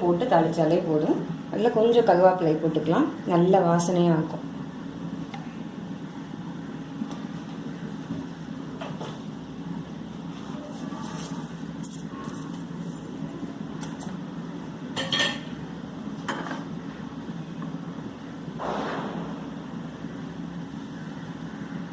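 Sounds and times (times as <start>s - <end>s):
low kitchen hum: 0.0s - 21.9s.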